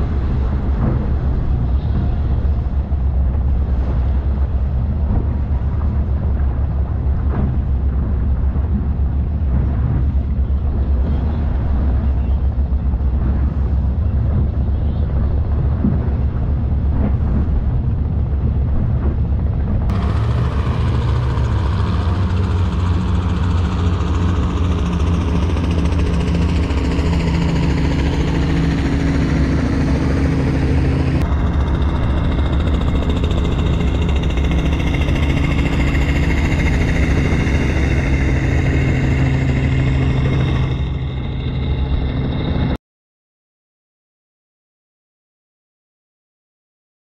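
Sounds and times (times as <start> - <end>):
boat engines droning: 0.0 - 42.8.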